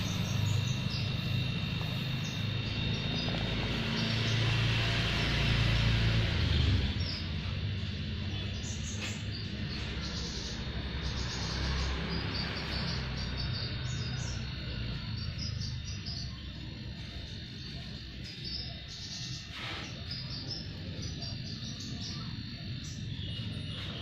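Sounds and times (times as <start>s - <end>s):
faint high chirping: 0.0s - 6.0s, 6.8s - 24.0s
compressor humming: 0.0s - 24.0s.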